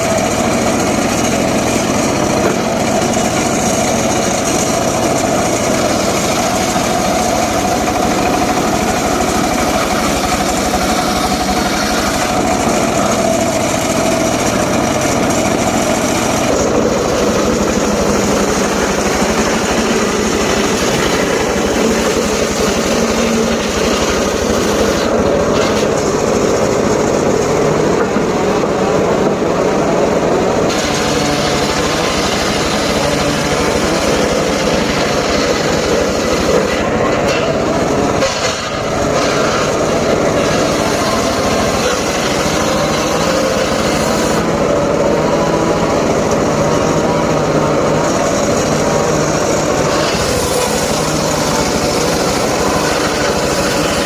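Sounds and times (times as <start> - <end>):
circular saw engine running: 0.0 - 54.0.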